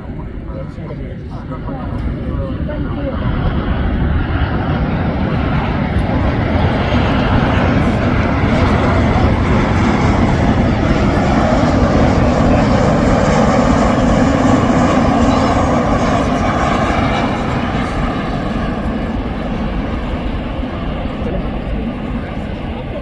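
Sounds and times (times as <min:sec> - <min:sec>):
jet airliner passing: 0:00.0 - 0:23.0.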